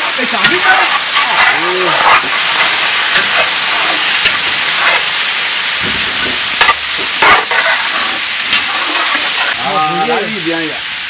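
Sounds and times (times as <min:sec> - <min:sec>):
meat sizzling in a pot: 0:00.0 - 0:11.0.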